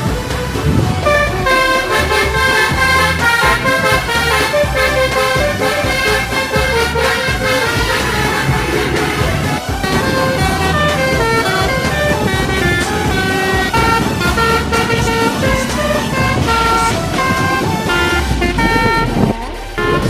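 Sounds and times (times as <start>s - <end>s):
low rumble: 0.0s - 20.0s
multi-tone bus horn melody: 0.0s - 20.0s.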